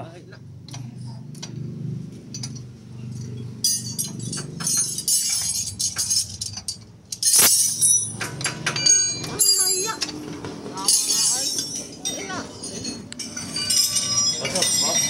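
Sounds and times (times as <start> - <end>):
metal clinking and clattering: 2.3 - 15.0.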